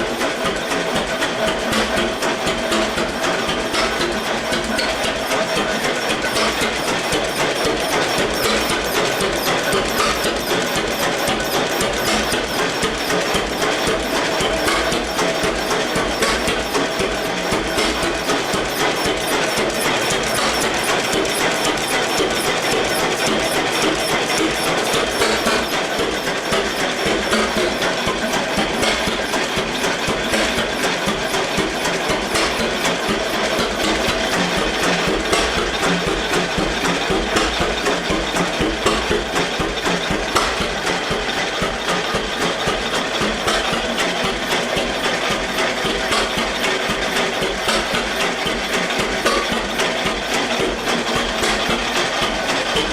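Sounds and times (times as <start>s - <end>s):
tractor engine clattering: 0.0s - 52.9s.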